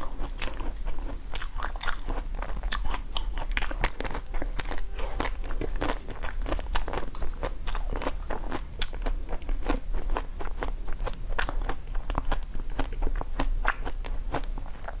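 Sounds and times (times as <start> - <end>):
frozen sweet crunching: 0.0 - 15.0.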